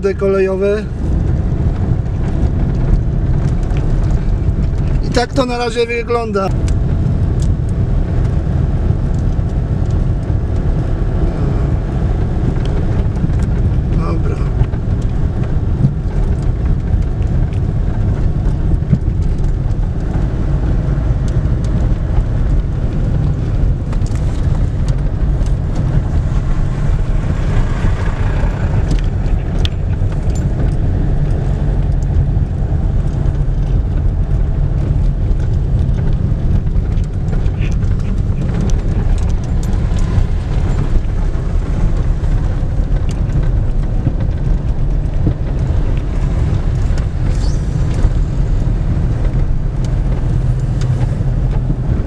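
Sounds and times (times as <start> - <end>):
low rumble of tyres and engine: 0.0 - 52.0.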